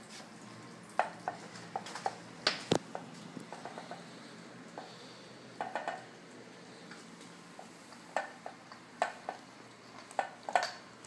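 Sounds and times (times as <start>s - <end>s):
kittens chewing and lapping: 0.0s - 11.0s.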